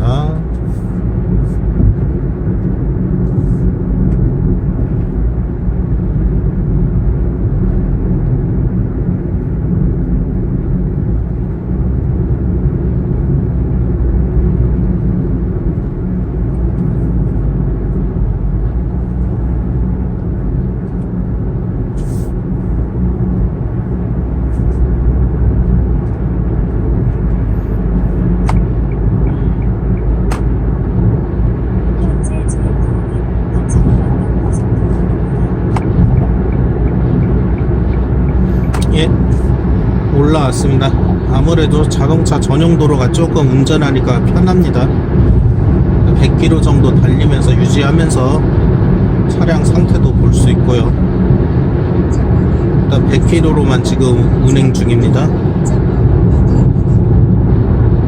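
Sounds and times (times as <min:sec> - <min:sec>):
car engine rumble inside cabin: 0:00.0 - 0:58.0
tyre road noise: 0:00.0 - 0:58.0.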